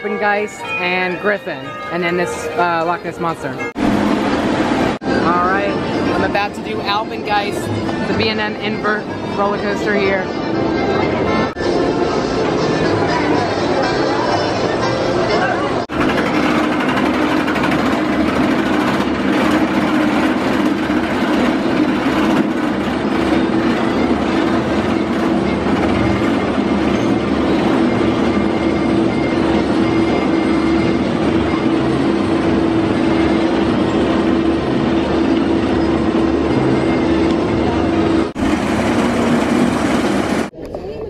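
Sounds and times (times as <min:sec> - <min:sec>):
constant hum: 0:00.0 - 0:41.0.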